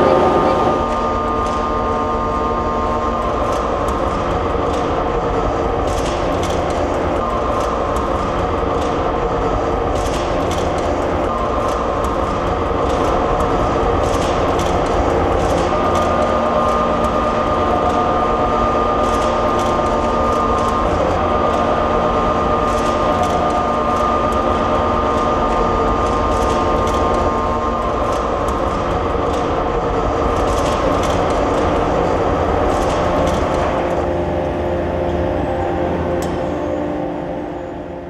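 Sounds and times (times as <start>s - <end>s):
machine whining: 0.0s - 38.0s
shake table mechanical rumble: 0.0s - 38.0s.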